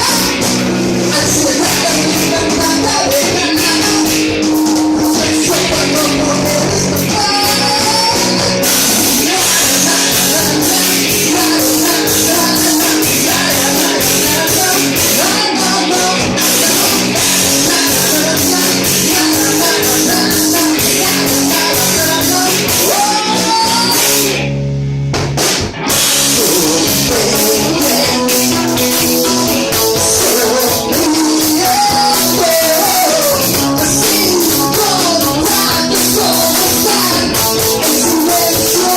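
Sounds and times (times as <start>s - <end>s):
person singing: 0.0s - 24.5s, 26.1s - 38.9s
drum kit: 0.0s - 38.9s
electric guitar: 0.0s - 38.9s.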